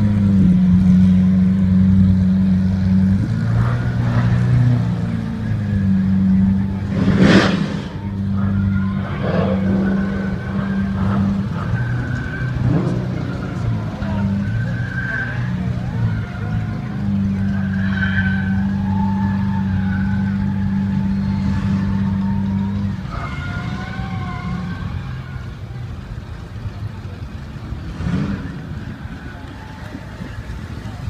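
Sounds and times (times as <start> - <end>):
engine revving: 0.0 - 25.5, 27.3 - 29.2
sports car engines idling: 0.0 - 31.0.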